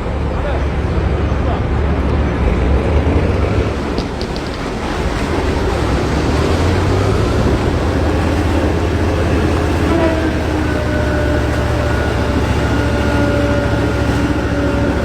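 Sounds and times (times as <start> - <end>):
heavy engine rumbling: 0.0 - 15.0
water noise: 0.0 - 15.0
wind: 0.0 - 15.0.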